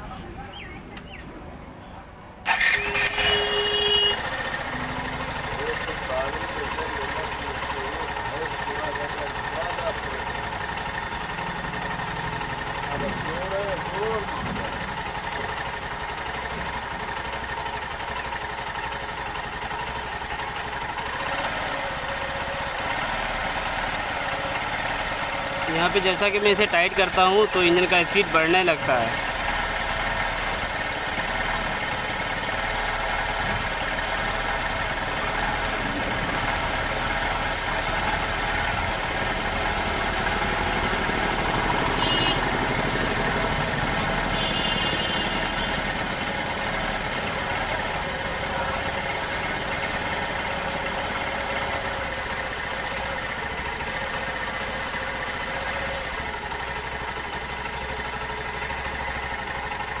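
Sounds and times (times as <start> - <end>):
motorcycle engine idling: 0.0 - 60.0.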